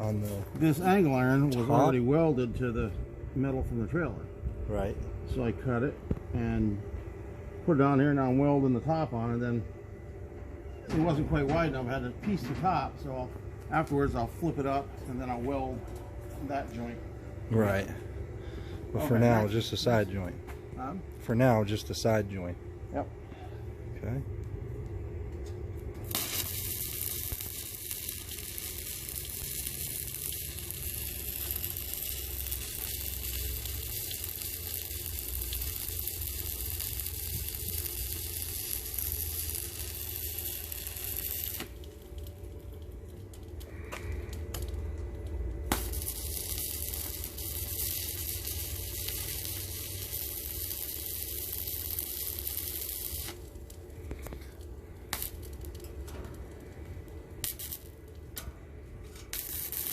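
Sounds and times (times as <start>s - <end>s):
welding arc crackling and sizzling: 0.0s - 9.6s, 10.9s - 23.1s, 23.7s - 59.9s.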